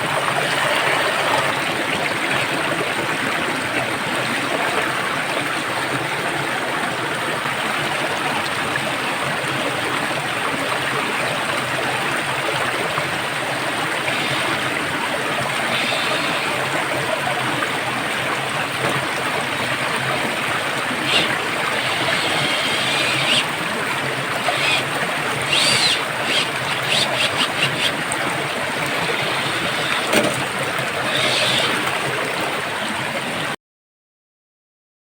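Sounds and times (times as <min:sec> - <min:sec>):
stream water flowing: 0:00.0 - 0:33.6.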